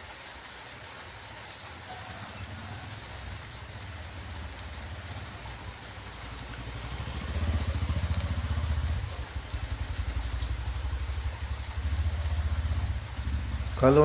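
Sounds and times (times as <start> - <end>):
engine pulsing rumble: 1.8 - 14.0.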